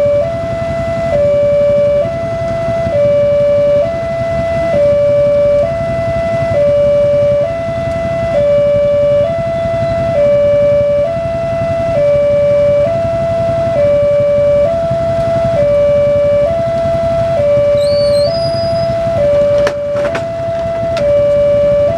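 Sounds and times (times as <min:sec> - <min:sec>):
level crossing two-tone siren: 0:00.0 - 0:21.9.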